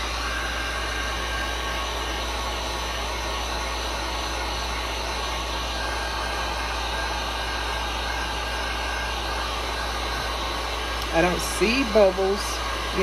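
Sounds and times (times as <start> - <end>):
heat gun blowing air: 0.0 - 13.0.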